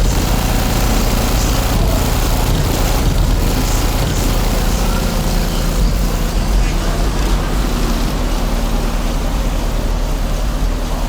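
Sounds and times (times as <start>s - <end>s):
subwoofers playing deep bass: 0.0s - 11.0s.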